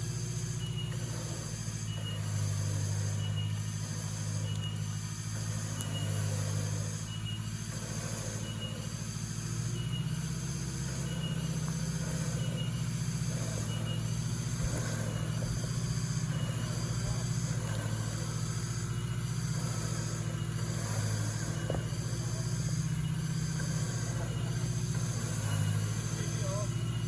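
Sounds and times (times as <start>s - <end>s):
engine low drone: 0.0s - 27.0s
faint beep-like tone: 0.1s - 27.0s.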